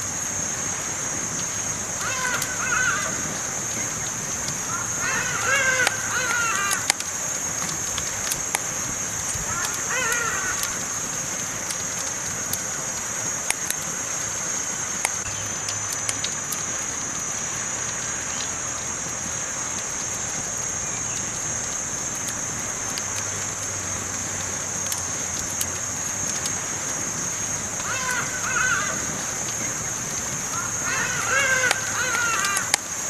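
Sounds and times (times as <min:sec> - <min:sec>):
burning wood popping and crackling: 0:00.0 - 0:33.0
campfire hissing: 0:00.0 - 0:33.0.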